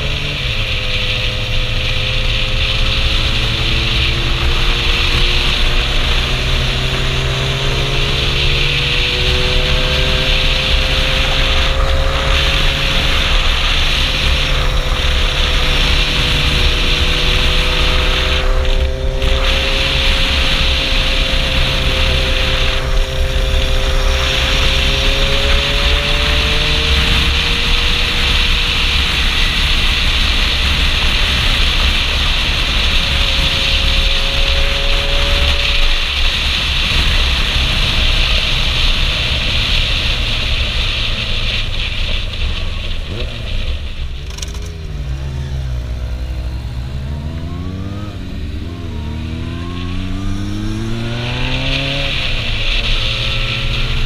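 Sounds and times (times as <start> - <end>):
motorcycle engine cruising: 0.0 - 54.0
wind rush: 0.0 - 54.0.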